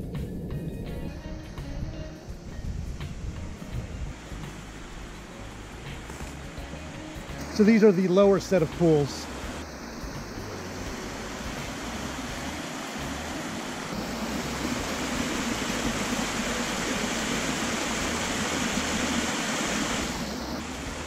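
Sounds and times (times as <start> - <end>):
waterfall cascading over rocks: 4.1 - 21.0.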